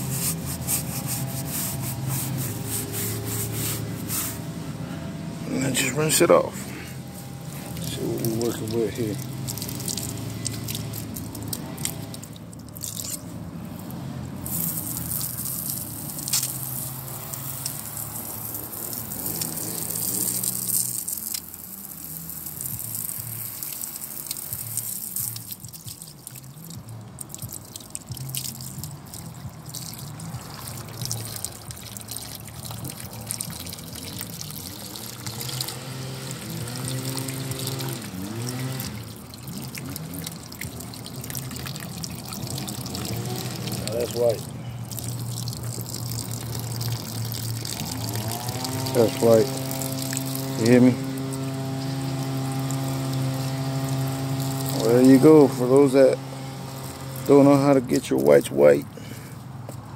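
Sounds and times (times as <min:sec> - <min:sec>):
garden hose water spraying: 0:00.0 - 0:04.6, 0:05.5 - 0:59.8.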